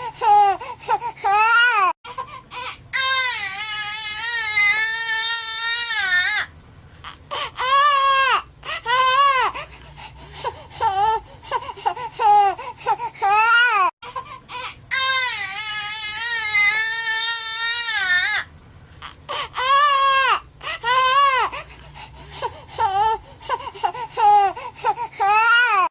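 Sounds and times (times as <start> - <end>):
infant crying: 0.0 - 9.7, 10.3 - 25.9.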